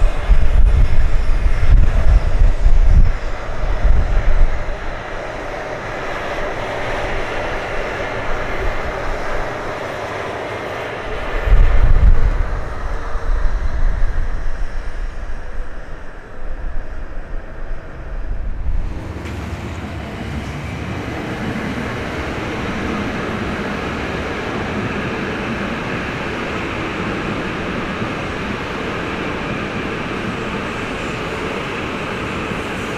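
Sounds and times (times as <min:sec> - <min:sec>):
deep train rumble: 0:00.0 - 0:32.9
train rushing past: 0:00.0 - 0:32.9.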